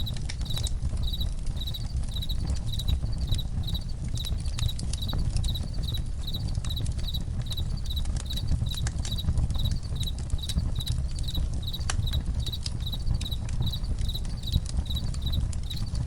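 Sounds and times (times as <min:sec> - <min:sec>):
campfire crackling: 0:00.0 - 0:16.0
crickets chirping: 0:00.0 - 0:16.0.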